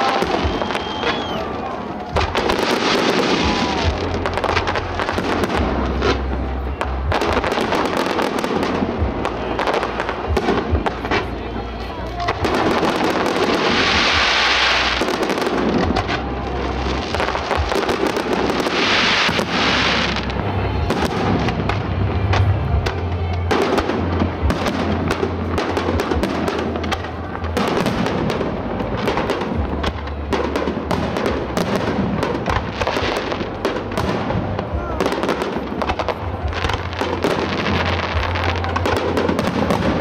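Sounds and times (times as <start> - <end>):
fireworks bangs and crackles: 0.0 - 40.0
fireworks hissing crackle: 0.0 - 40.0.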